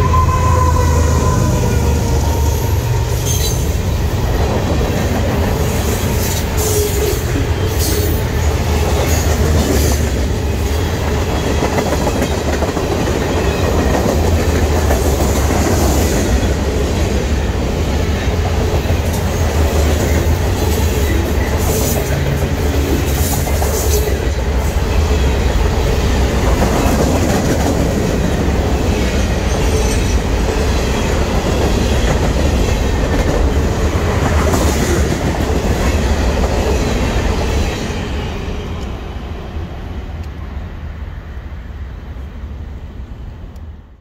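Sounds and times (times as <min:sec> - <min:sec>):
freight train rumbling past: 0:00.0 - 0:44.0.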